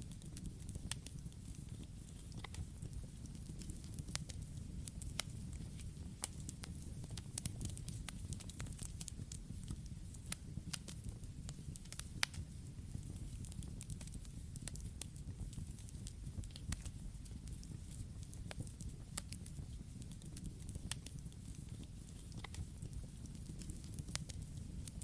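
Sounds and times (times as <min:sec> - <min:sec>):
fire crackles and pops: 0:00.0 - 0:25.0
campfire flames rumbling: 0:00.1 - 0:25.0.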